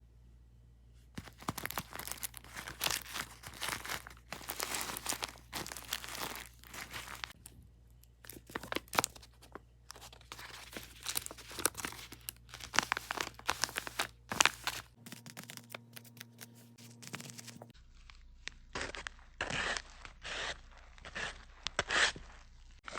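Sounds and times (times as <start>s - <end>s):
paper or plastic crinkling and tearing: 1.2s - 7.4s, 8.2s - 22.9s.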